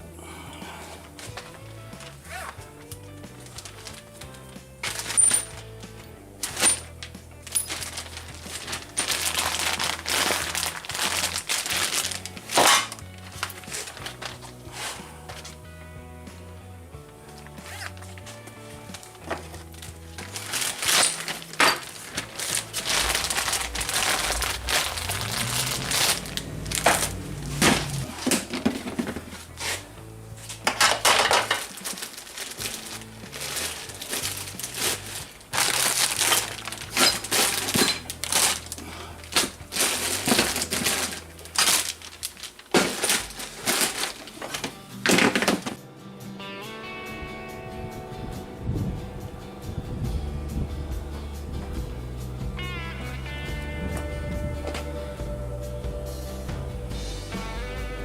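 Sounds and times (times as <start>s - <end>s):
background music with bass line: 0.0s - 58.0s.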